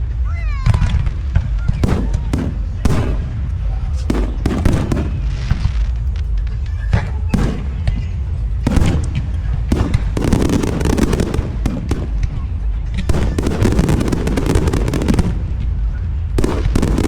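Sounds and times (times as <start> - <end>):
fireworks booming: 0.7 - 6.3, 6.9 - 17.0
fireworks crackling: 0.9 - 6.5, 7.3 - 17.0.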